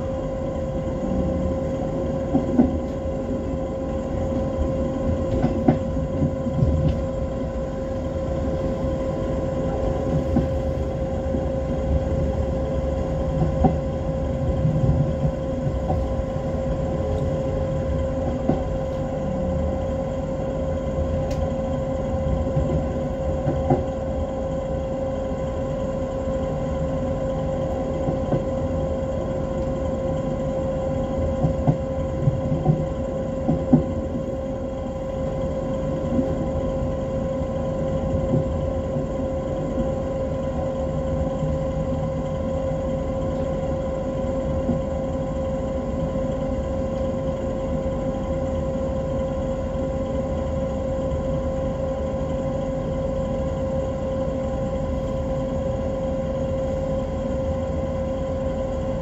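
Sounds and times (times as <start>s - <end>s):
steady whine: 0.0s - 59.0s
train rumbling on track: 0.0s - 59.0s.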